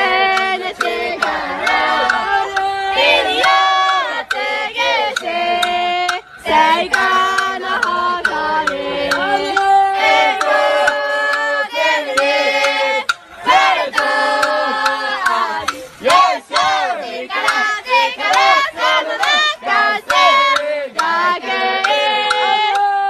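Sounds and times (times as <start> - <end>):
group chanting a cheer song: 0.0 - 23.0
hand claps: 0.1 - 23.0.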